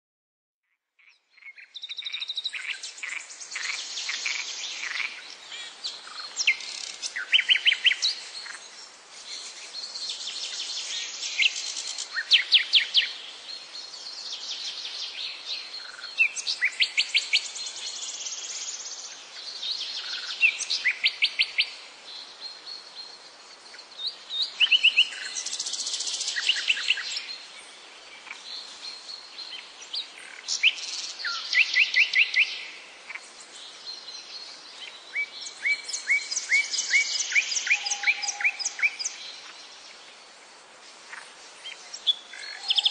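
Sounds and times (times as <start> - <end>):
birds singing: 1.0 - 40.4, 41.0 - 42.9.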